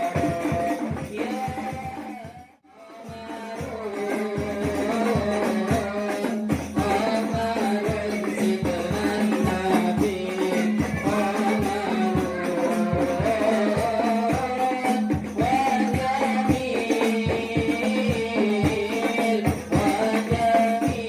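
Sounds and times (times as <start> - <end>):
frame drums beating: 0.0 - 21.0
jingling tambourine: 0.0 - 21.0
person singing melody: 0.0 - 21.0.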